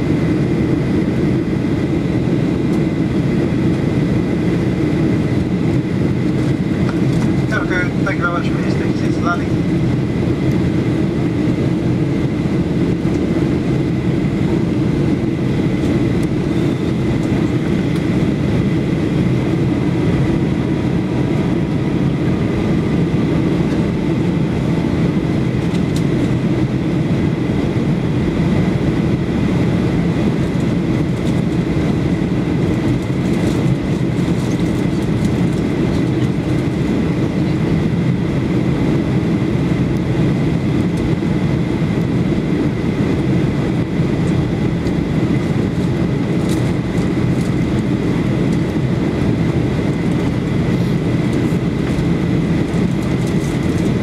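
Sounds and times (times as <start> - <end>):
aircraft cabin engine roar: 0.0 - 54.0.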